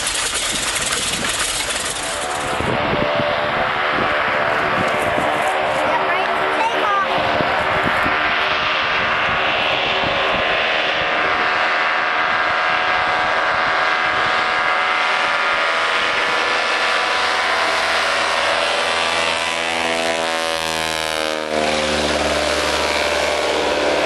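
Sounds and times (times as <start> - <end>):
propeller plane engine at high power: 0.0 - 24.0.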